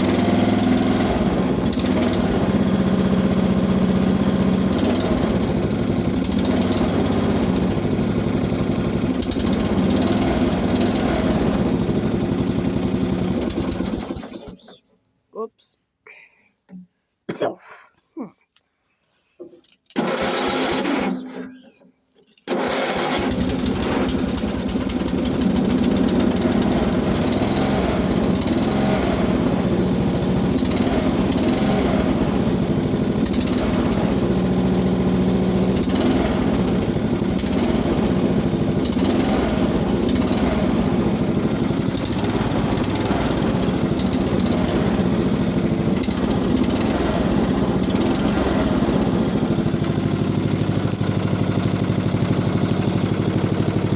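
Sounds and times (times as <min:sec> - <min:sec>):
garden tractor engine starting: 0:00.0 - 0:15.0, 0:19.8 - 0:53.9.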